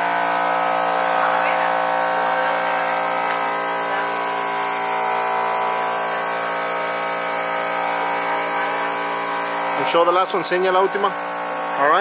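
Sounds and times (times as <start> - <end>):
motor whining steadily: 0.0 - 12.0.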